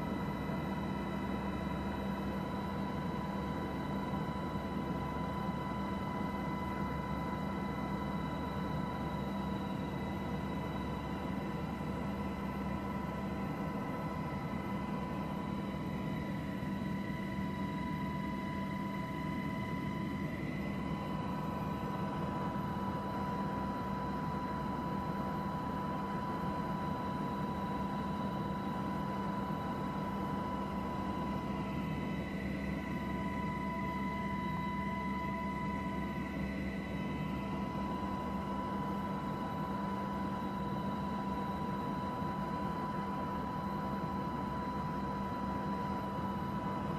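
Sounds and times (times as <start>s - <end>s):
aircraft engine drone: 0.0s - 46.9s.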